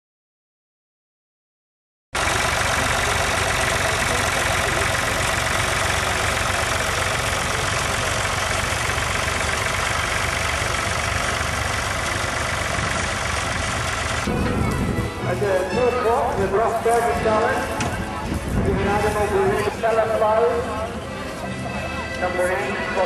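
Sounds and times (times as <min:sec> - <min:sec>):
tractor engine under load: 0:02.2 - 0:23.0.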